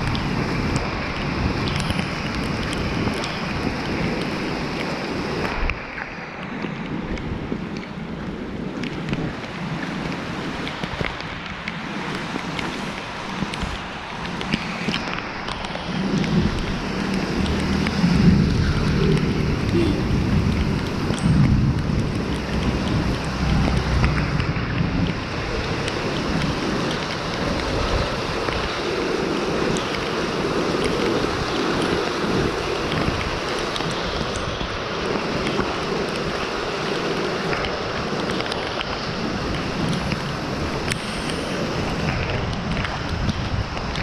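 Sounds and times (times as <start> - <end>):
steady rain: 0.0 - 44.0
wind buffeting microphone: 0.0 - 44.0.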